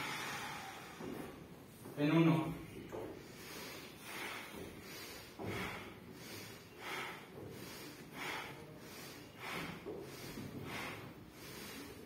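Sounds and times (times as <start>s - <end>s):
short forceful breaths: 0.0s - 1.5s, 2.9s - 12.0s.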